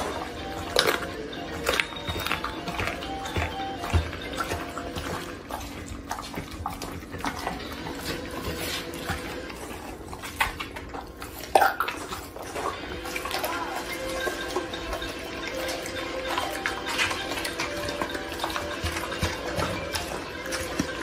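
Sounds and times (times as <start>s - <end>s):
dog chewing wet smacking: 0.0s - 21.0s.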